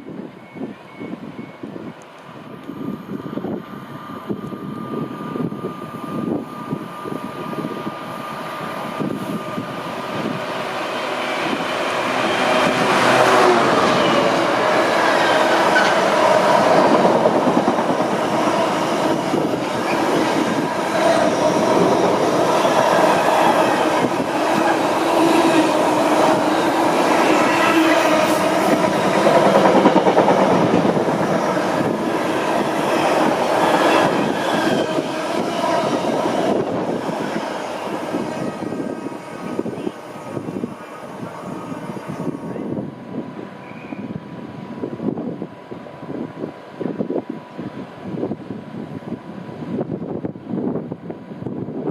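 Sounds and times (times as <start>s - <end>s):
train passing through station: 0.0s - 51.9s.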